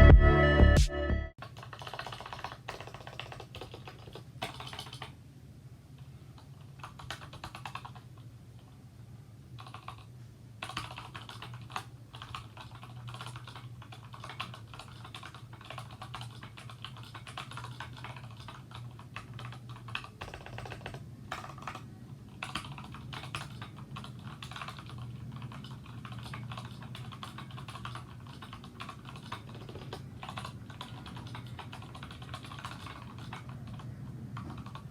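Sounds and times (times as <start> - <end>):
mechanical keyboard typing: 1.4 - 5.2, 6.4 - 8.2, 9.6 - 34.9.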